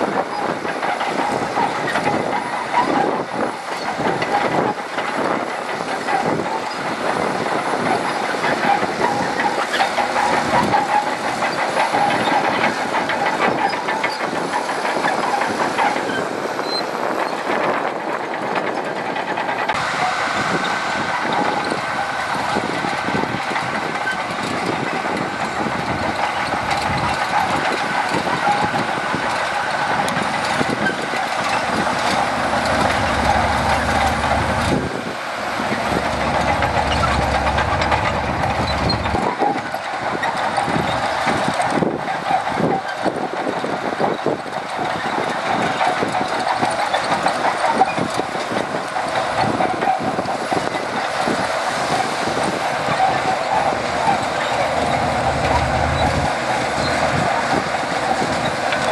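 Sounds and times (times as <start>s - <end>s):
bulldozer diesel engine running: 0.0s - 58.9s
steel tracks clanking: 0.0s - 58.9s.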